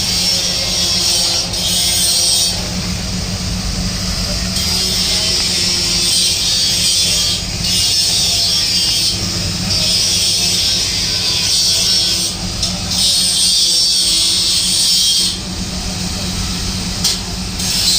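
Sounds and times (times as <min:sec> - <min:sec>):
steady low hum: 0:00.0 - 0:17.9
welding torch hiss: 0:00.0 - 0:17.9.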